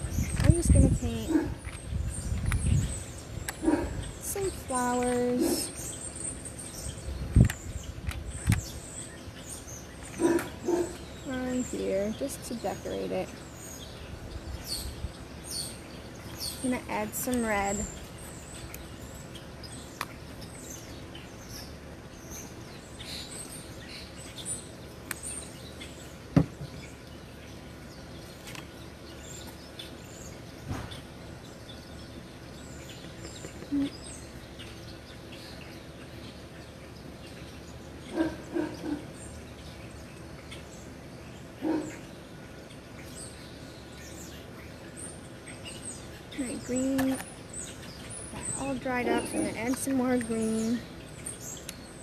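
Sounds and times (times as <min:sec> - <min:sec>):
outdoor background noise: 0:00.0 - 0:52.0
small birds chirping: 0:00.0 - 0:52.0.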